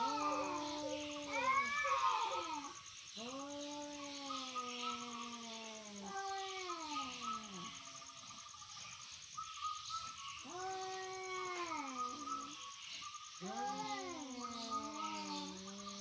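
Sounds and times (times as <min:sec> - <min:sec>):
cats yowling: 0:00.0 - 0:08.0, 0:10.4 - 0:12.7, 0:13.3 - 0:16.0.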